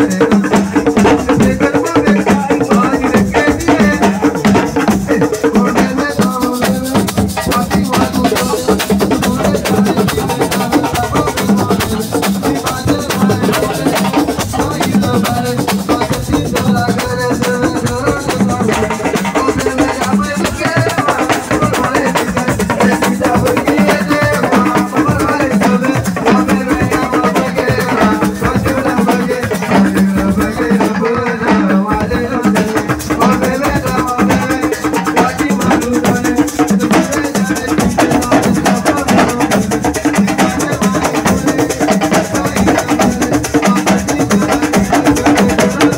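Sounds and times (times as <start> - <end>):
fast drumming and percussion: 0.0 - 45.9.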